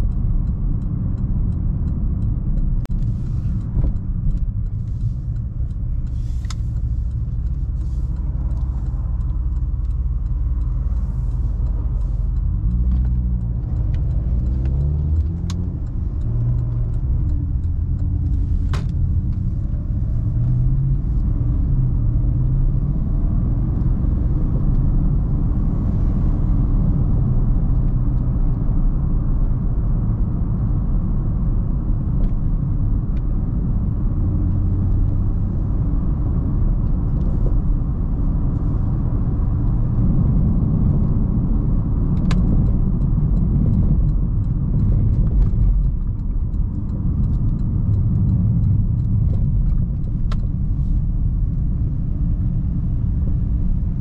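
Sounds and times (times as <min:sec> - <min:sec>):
car engine rumbling: 0:00.0 - 0:54.0
road noise: 0:00.0 - 0:54.0.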